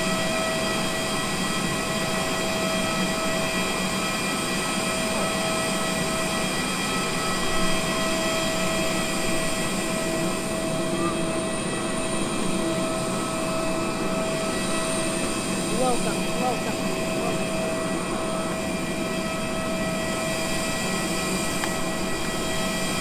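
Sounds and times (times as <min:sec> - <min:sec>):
jet auxiliary power unit whine: 0:00.0 - 0:23.0.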